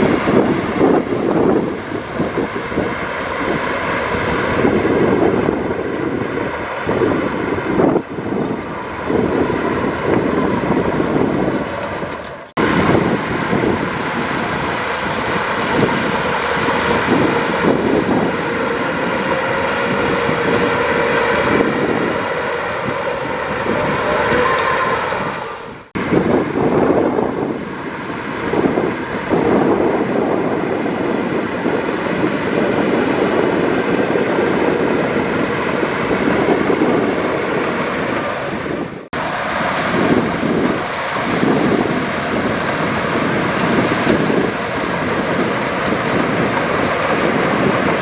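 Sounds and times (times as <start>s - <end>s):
diesel engine under load: 0.0s - 48.0s
steel tracks clattering and squealing: 0.0s - 48.0s.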